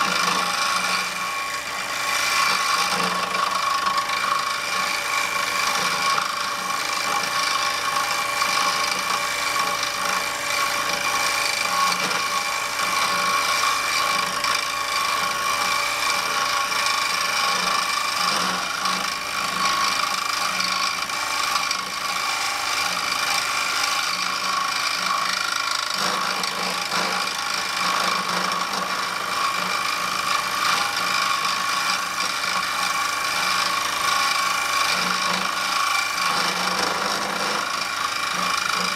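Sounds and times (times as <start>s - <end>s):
chisel scraping spinning wood: 0.0s - 38.9s
wood lathe humming: 0.0s - 38.9s.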